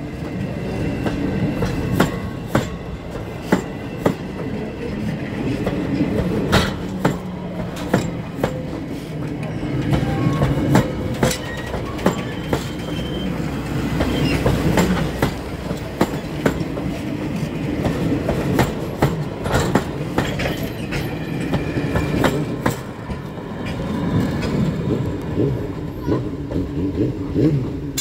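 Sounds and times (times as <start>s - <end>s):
train coaches rumbling: 0.0s - 28.0s
wheels clacking over rail joints: 5.5s - 28.0s.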